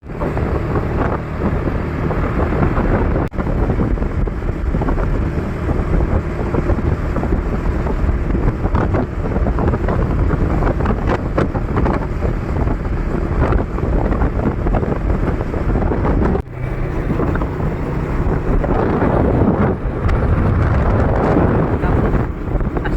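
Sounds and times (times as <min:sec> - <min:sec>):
vehicle engine hum: 0:00.0 - 0:22.9
wind buffeting microphone: 0:00.0 - 0:22.9.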